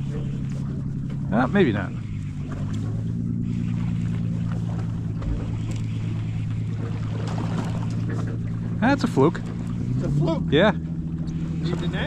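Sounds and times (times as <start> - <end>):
water hissing around hull: 0.0 - 10.0
boat engine idling: 0.0 - 12.0.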